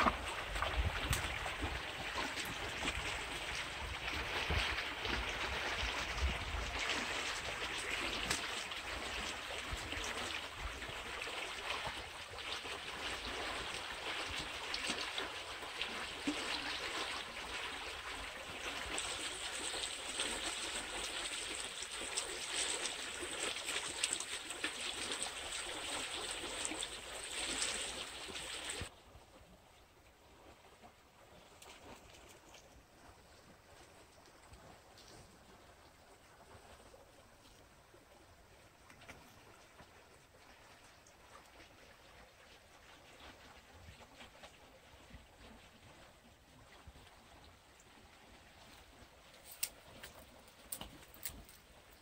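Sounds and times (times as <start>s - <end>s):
water flowing over rocks: 0.0s - 29.2s, 30.2s - 52.0s.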